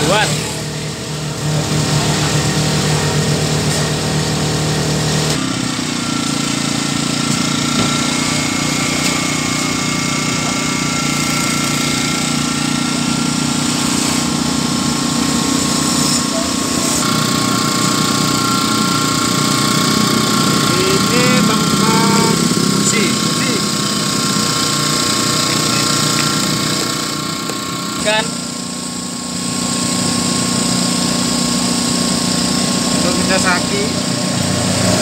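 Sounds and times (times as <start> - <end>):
generator engine running: 0.0 - 35.0.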